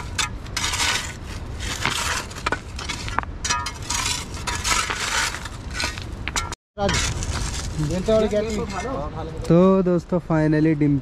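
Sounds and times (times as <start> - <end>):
soil and stones scraping: 0.0 - 9.6.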